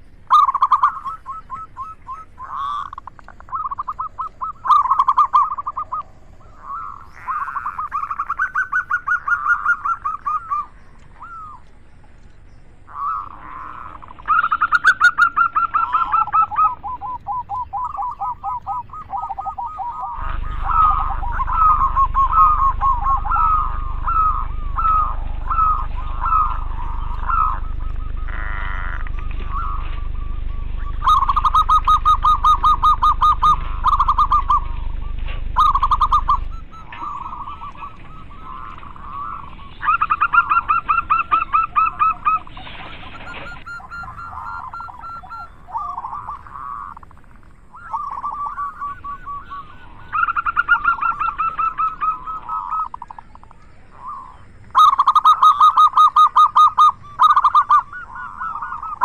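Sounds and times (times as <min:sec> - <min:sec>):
doves cooing in stuttering trills: 0:00.0 - 0:59.0
low hum: 0:00.0 - 0:59.0.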